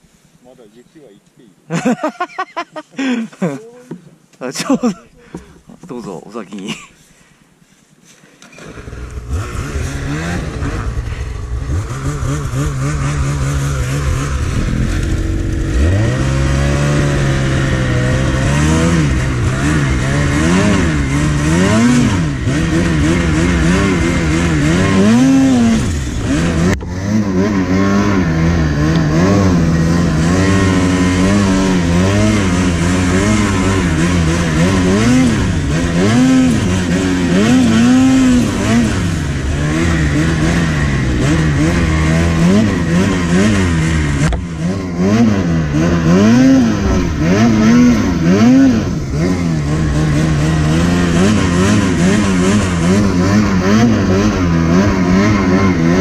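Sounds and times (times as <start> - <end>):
snowmobile engine revving: 8.4 - 56.0.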